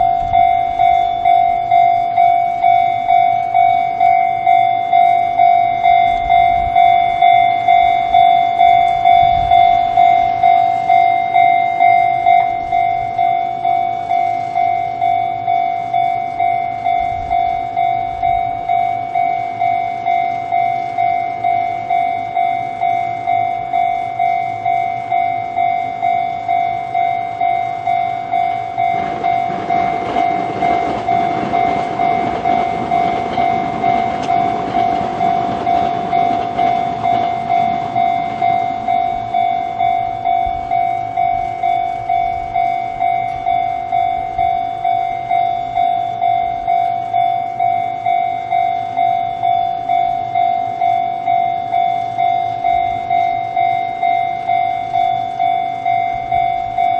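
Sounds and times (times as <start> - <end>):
level crossing bell ringing: 0.0 - 56.9
train rumbling past: 0.0 - 56.9.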